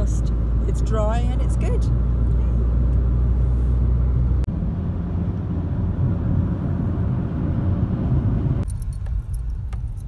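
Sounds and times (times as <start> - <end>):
car interior road drone: 0.0 - 10.0.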